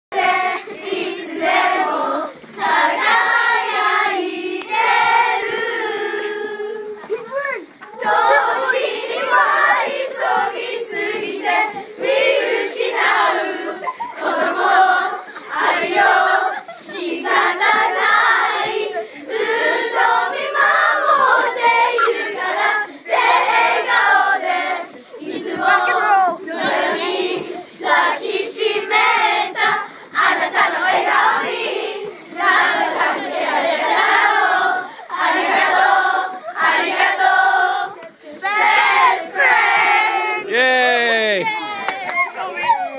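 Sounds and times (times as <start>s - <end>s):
children singing together: 0.1s - 7.2s, 7.9s - 40.6s.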